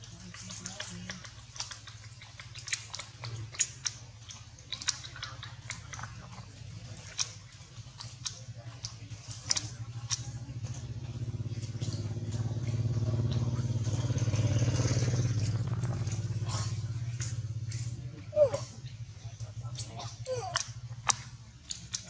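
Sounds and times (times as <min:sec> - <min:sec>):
motorcycle engine passing: 0:00.1 - 0:22.0.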